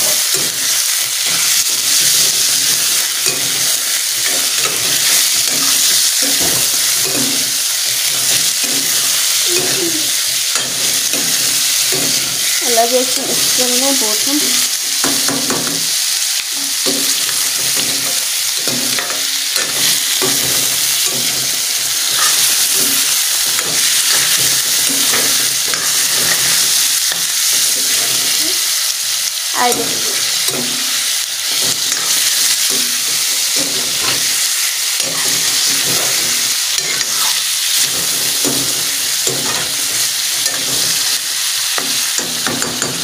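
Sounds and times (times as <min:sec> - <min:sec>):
chicken sizzling in oil: 0:00.0 - 0:43.0.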